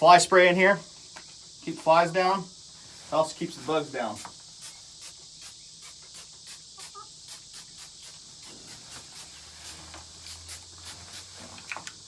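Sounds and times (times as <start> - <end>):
insects buzzing: 0.0 - 12.0
insects chirping: 0.0 - 12.0.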